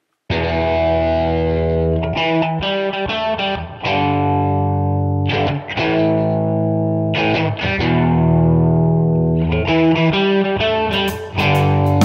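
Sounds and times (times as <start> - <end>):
distorted electric guitar chords: 0.3 - 12.0.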